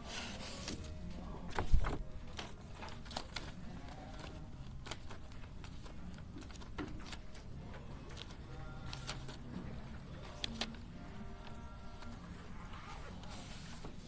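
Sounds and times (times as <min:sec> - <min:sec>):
paper rustling: 0:00.0 - 0:14.0.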